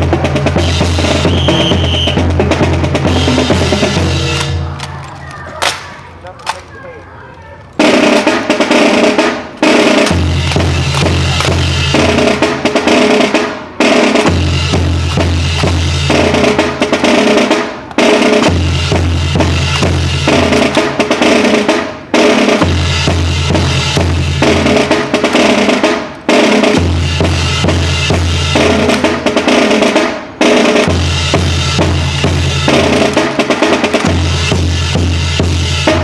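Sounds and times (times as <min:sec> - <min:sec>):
marching drum cadence: 0:00.0 - 0:36.0.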